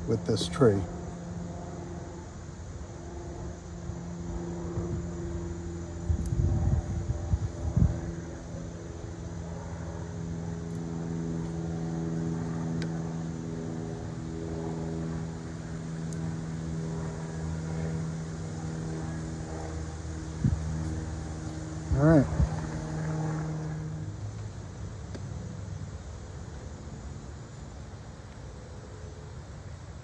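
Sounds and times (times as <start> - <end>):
engine drone: 0.0 - 30.0.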